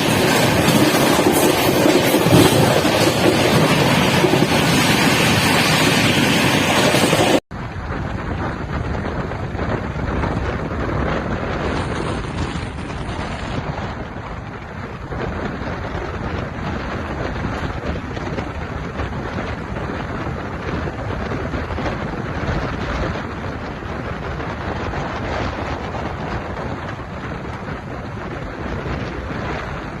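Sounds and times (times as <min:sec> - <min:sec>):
heavy rain: 0:00.0 - 0:30.0
wind buffeting microphone: 0:00.0 - 0:30.0.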